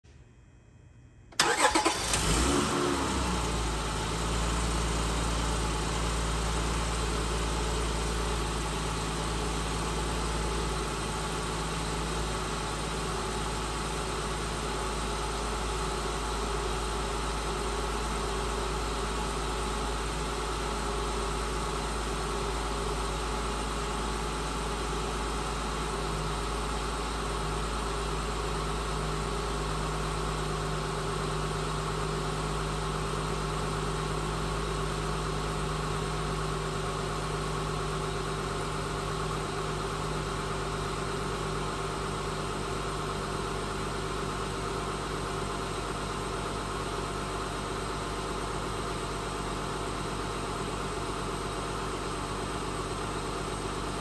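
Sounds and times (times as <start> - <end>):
car engine starting and idling: 1.3 - 54.0.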